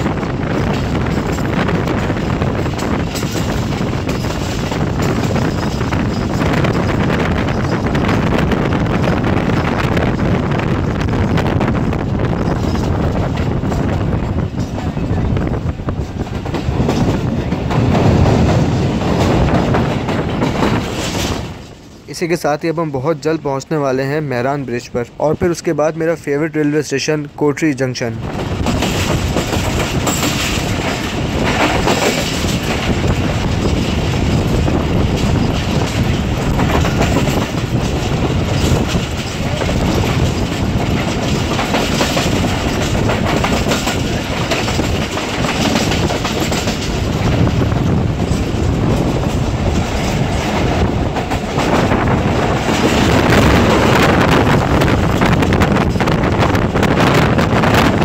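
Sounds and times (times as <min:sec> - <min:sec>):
train wheels clattering on rails: 0:00.0 - 0:26.1, 0:28.2 - 0:58.0.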